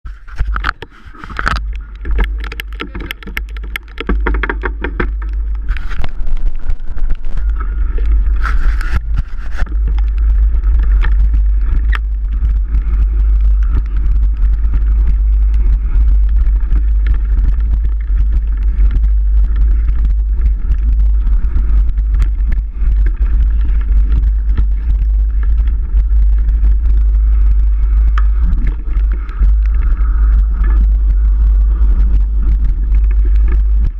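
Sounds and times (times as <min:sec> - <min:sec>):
wind rumble on microphone: 0:00.0 - 0:33.9
clicks and rattles: 0:00.1 - 0:33.9.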